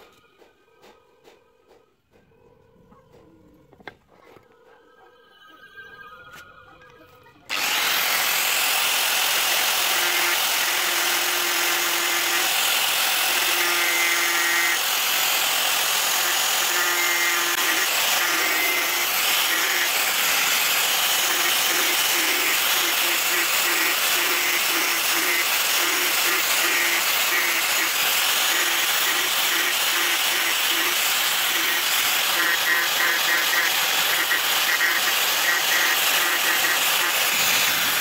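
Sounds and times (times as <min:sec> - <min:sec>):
angle grinder sanding wood: 0:07.5 - 0:38.0.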